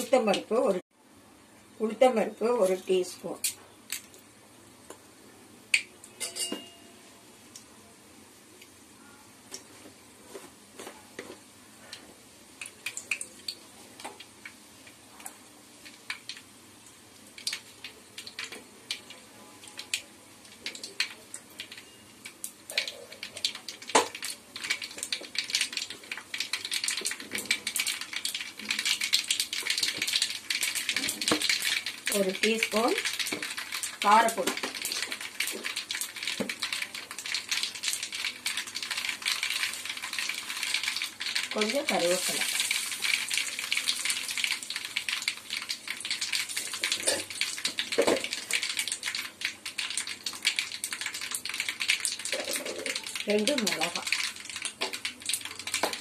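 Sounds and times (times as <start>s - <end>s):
seeds popping in hot oil: 5.7s - 6.8s, 11.2s - 56.0s.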